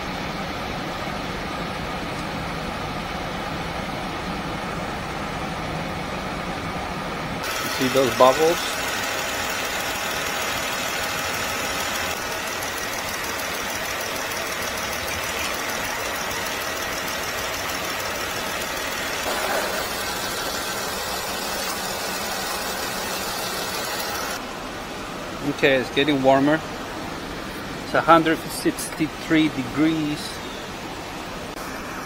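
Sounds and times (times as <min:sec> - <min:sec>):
car engine idling: 0:00.0 - 0:30.4.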